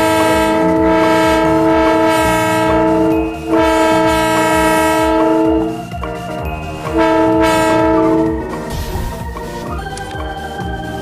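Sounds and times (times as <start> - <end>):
train-style horn chord: 0.0 - 9.0
low rumble: 0.0 - 9.8.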